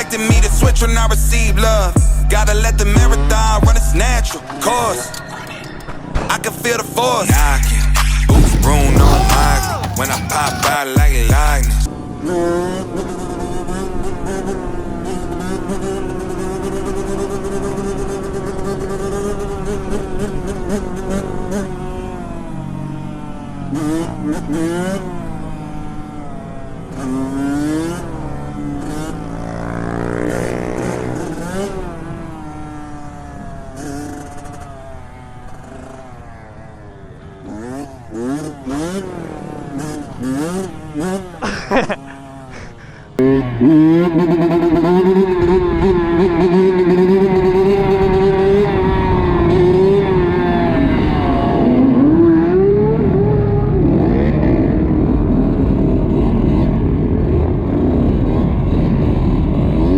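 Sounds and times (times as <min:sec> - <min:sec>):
small motorcycle engines revving: 0:00.0 - 0:59.9.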